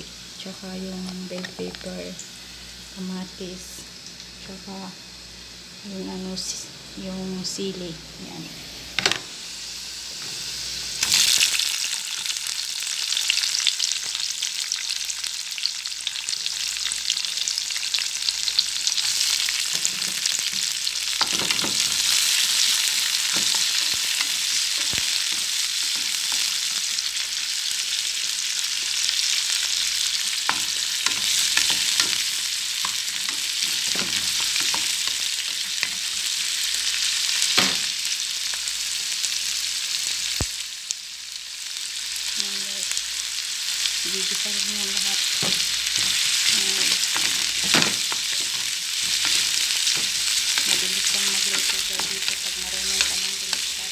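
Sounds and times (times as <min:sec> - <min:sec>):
garlic and onions sizzling in oil: 0:00.0 - 0:53.9.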